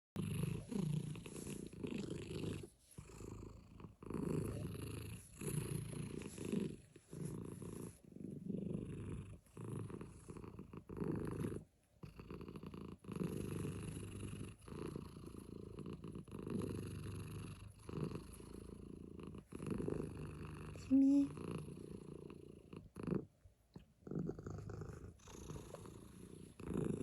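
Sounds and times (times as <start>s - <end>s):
cat purring: 0.2s - 27.0s.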